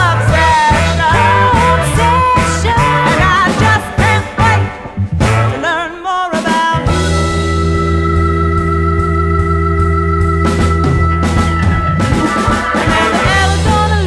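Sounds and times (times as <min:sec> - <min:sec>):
steady repeating bass line: 0:00.0 - 0:05.6, 0:06.8 - 0:14.0
soul band music: 0:00.0 - 0:14.0.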